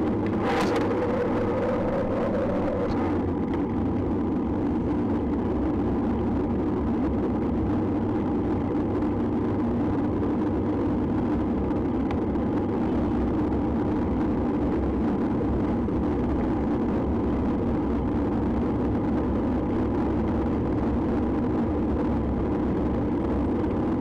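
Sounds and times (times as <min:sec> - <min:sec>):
vehicle travel noise: 0:00.0 - 0:24.0
wind noise: 0:00.0 - 0:24.0.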